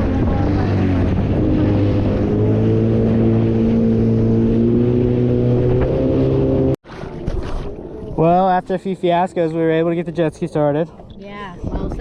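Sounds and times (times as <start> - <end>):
jet ski engine hum: 0.0 - 12.0
wind and water noise: 0.0 - 12.0.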